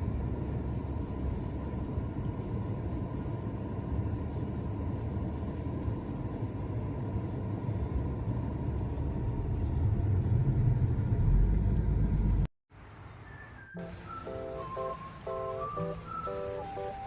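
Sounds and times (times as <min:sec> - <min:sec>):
vehicle rumbling: 0:00.0 - 0:17.0.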